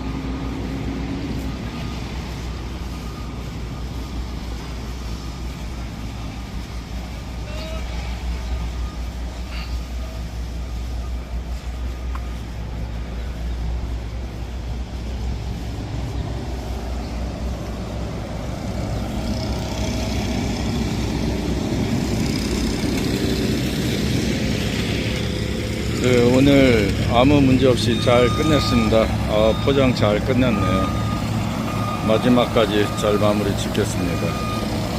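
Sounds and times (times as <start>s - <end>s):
paving machinery engines rumbling: 0.0s - 34.9s.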